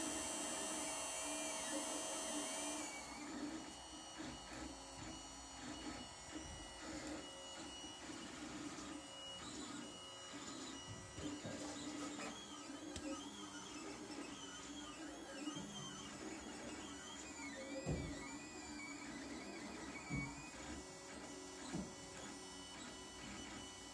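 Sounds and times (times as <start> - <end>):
stepper motors whining: 0.0 - 23.9.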